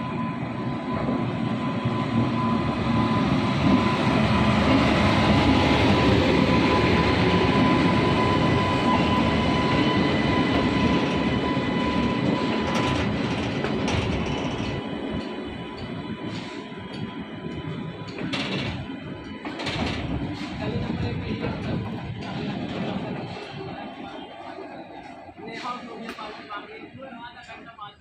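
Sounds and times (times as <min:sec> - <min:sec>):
freight train wheels rumbling: 0:00.0 - 0:27.8
train clanks: 0:03.1 - 0:26.6.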